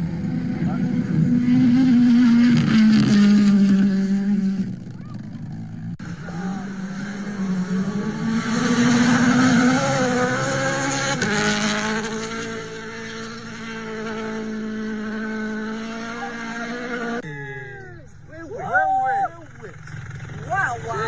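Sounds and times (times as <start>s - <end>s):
rally car engine revving: 0.0s - 18.6s.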